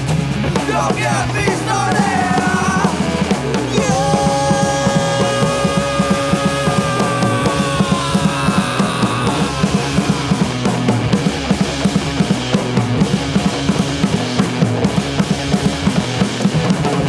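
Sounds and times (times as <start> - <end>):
rock band drums and bass: 0.0 - 17.0.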